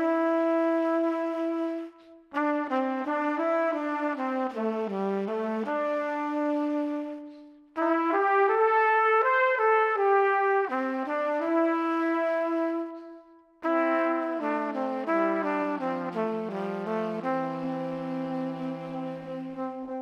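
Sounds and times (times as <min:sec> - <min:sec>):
brass instruments playing chords: 0:00.8 - 0:20.0.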